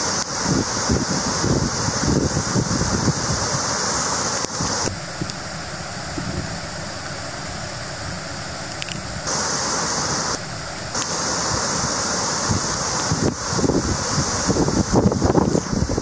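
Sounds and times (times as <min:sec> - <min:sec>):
heavy rain: 0:00.0 - 0:16.0
river rushing: 0:00.0 - 0:16.0.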